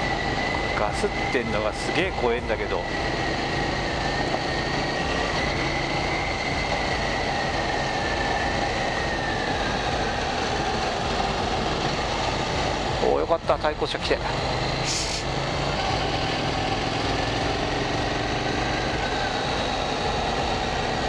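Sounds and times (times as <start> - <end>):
motorcycle engine running: 0.0 - 21.0
road noise: 0.0 - 21.0.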